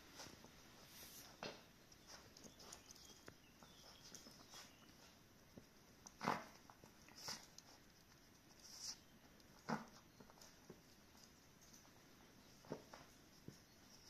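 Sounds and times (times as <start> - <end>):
puppies snuffling: 0.0 - 14.0.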